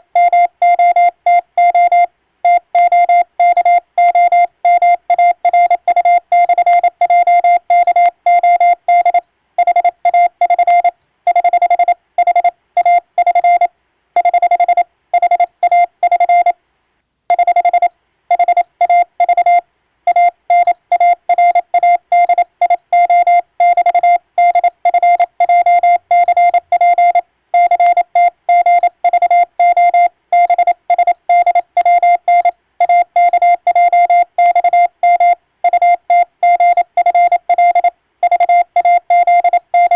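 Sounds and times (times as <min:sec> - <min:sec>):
morse code beeps: 0:00.2 - 0:16.6, 0:17.3 - 0:39.9.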